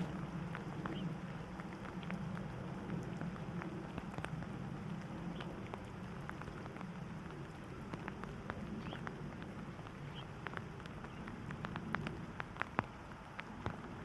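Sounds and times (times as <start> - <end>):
raindrops ticking: 0.0 - 14.0
steady rain: 0.0 - 14.0.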